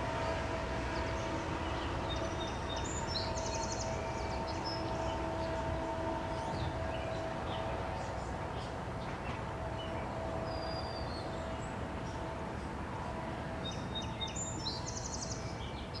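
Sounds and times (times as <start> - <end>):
distant freight train rumble: 0.0 - 16.0.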